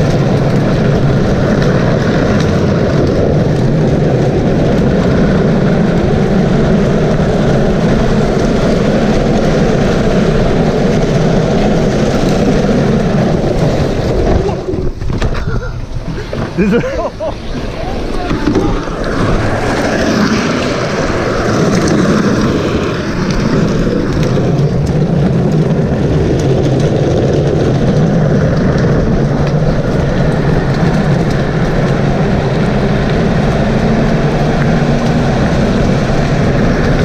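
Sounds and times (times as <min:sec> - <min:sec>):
vehicle rumbling in motion: 0:00.0 - 0:37.0.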